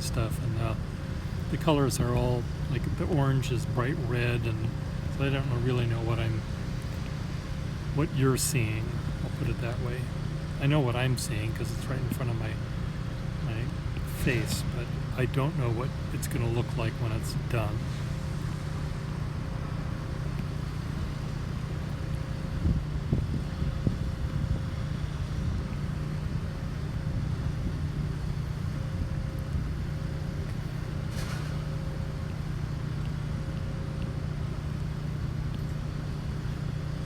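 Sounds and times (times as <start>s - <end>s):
vehicle engines rumbling: 0.0s - 37.0s.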